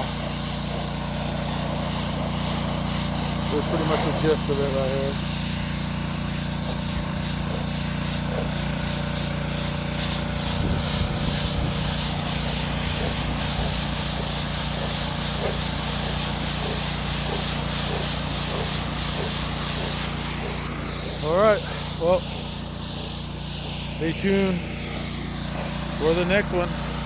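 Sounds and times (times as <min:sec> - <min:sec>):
pressure washer spraying concrete: 0:00.0 - 0:27.0.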